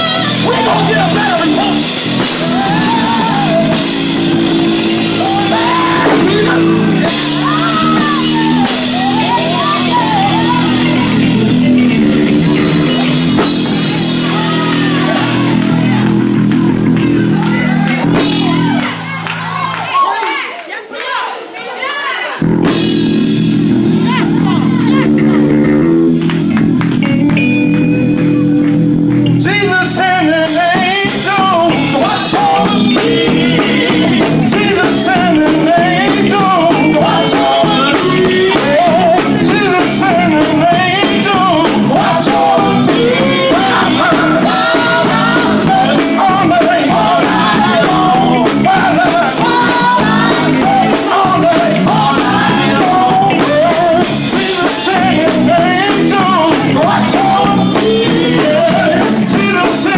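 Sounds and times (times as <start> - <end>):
drums: 0.0 - 20.1, 22.3 - 59.9
guitar: 0.0 - 20.9, 21.6 - 59.9
gospel group singing: 0.0 - 25.9, 29.3 - 59.9.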